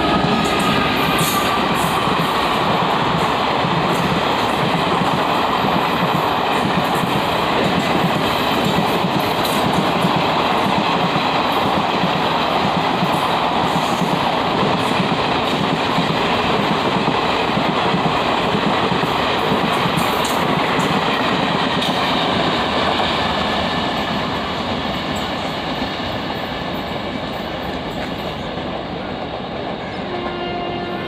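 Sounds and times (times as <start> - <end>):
clickety-clack over rail joints: 0.0 - 30.9
train wheels rushing on rails: 0.0 - 31.0.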